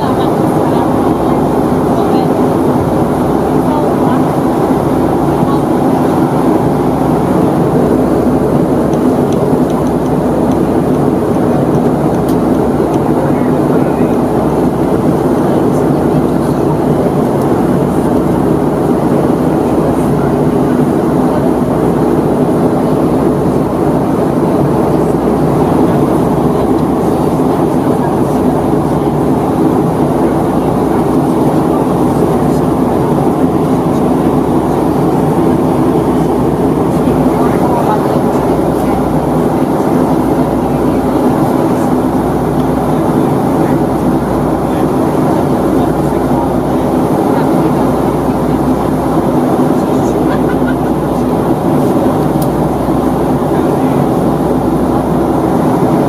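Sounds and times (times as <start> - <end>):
airflow past fuselage: 0.0 - 56.0
airliner cabin engine drone: 0.0 - 56.0.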